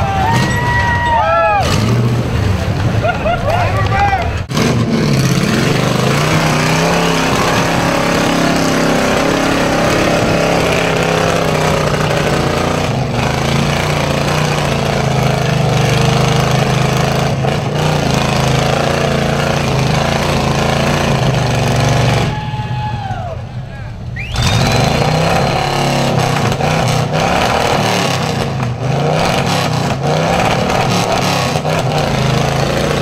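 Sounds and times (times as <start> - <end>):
truck engine running at low revs: 1.6 - 33.0.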